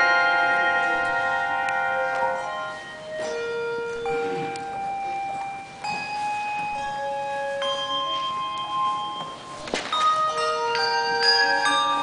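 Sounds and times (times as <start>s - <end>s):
handbells ringing: 0.0s - 12.0s.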